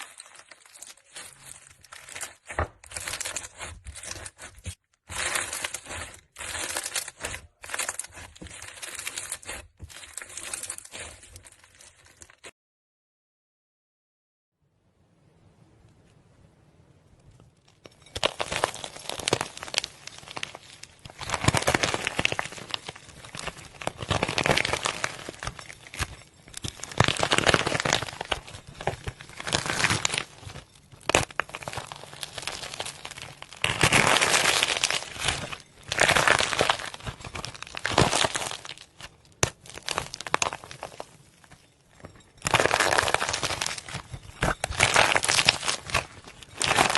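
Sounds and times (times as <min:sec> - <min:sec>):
slime crackling and popping: 0:00.0 - 0:12.5, 0:17.7 - 0:46.9.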